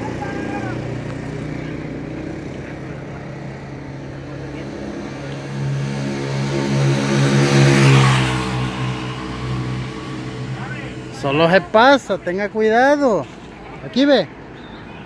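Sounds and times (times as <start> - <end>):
vehicle engine passing by: 0.0 - 14.4.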